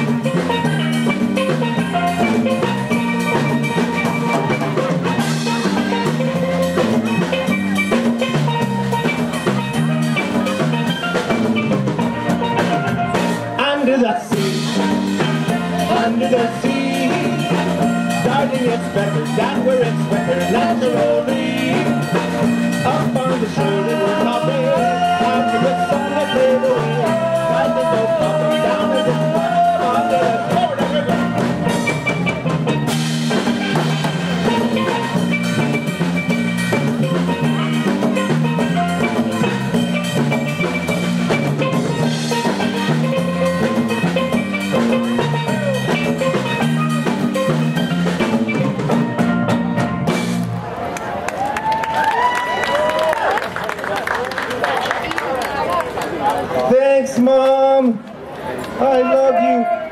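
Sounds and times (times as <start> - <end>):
hand percussion: 0.0 - 50.5
steel pans playing melody: 0.0 - 50.6
drum kit beat: 0.0 - 50.8.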